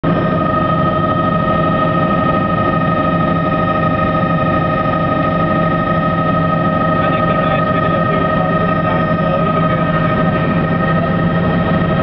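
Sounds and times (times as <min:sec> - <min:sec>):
helicopter engine and rotor noise: 0:00.0 - 0:12.0.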